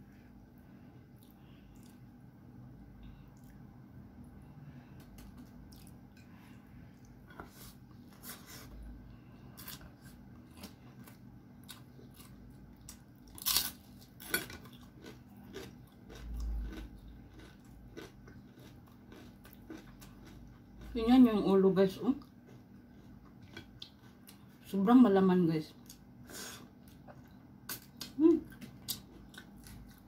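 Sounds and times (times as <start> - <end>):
person chewing and crunching food: 1.0 - 2.1, 4.9 - 24.7, 25.8 - 30.0.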